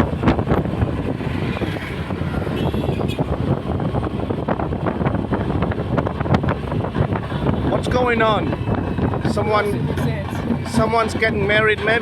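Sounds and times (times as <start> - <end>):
scooter engine and road rumble: 0.0 - 12.0
wind buffeting microphone: 0.0 - 12.0.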